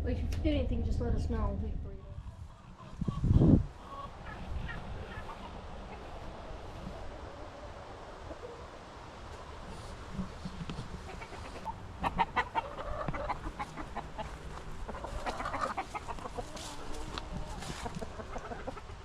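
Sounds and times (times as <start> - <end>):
chickens clucking: 1.3 - 19.0.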